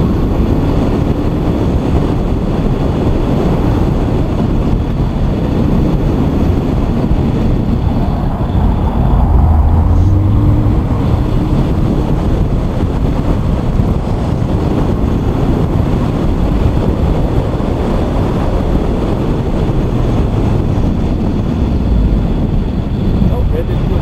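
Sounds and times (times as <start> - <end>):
car engine under load: 0.0 - 23.4
road and wind noise: 0.0 - 24.0.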